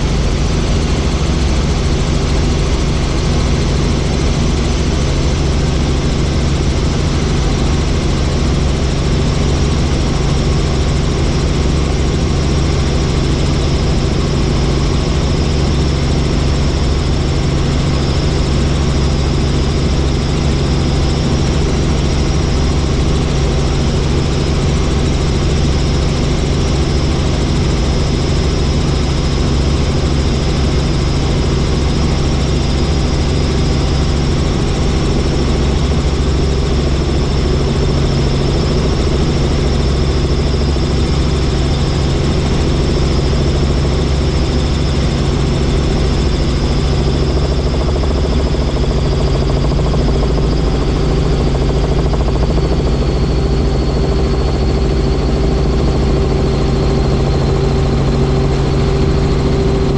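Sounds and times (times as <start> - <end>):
helicopter rotor and engine: 0.0 - 59.9.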